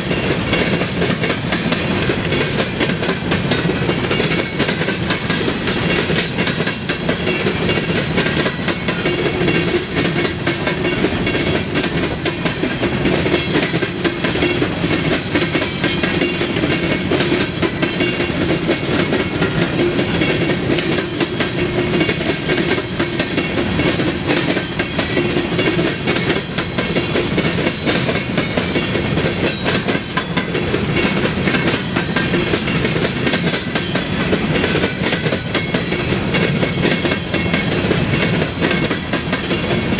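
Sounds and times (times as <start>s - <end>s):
clickety-clack over rail joints: 0.0s - 39.9s
train wheels rumbling on rail: 0.0s - 39.9s.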